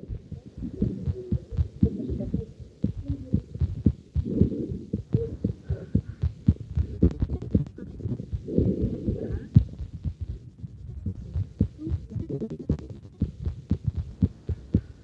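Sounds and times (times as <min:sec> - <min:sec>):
heartbeat thumps through stethoscope: 0:00.0 - 0:15.0.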